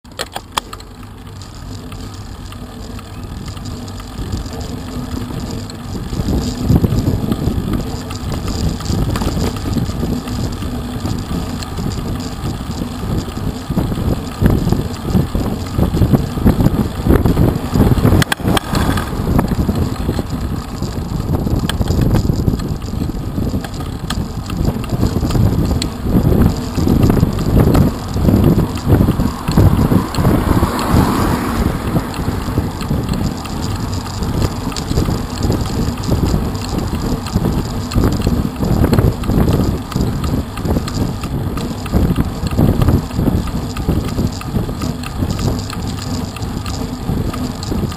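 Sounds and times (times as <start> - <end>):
tyre noise on tarmac: 0.0 - 47.9
wind buffeting microphone: 1.4 - 47.9.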